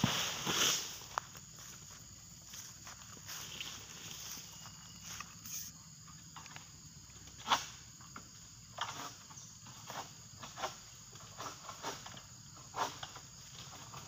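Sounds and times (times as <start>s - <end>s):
faint insect drone: 0.0s - 14.0s.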